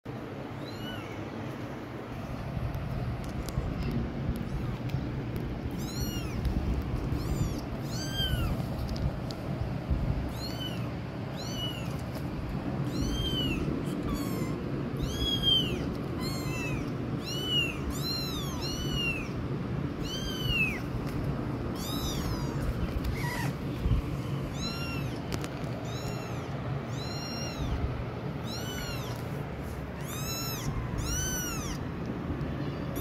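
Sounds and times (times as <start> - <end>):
steady low background noise: 0.1 - 33.0
kittens mewing: 0.5 - 2.4, 5.6 - 8.8, 10.2 - 33.0.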